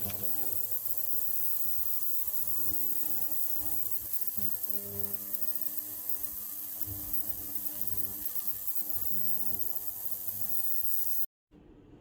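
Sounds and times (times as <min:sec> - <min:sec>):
ultrasonic cleaner buzzing and whining: 0:00.0 - 0:11.3.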